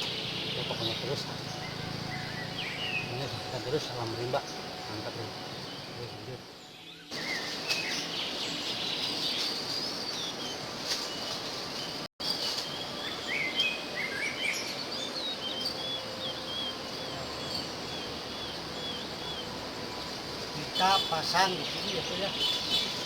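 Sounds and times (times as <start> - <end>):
birds chirping and calling: 0.0 - 23.0
insects hissing: 0.0 - 23.0.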